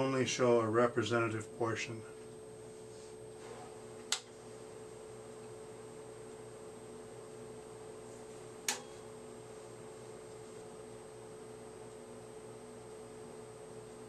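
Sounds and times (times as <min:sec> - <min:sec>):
computer equipment hum: 0:00.0 - 0:14.0.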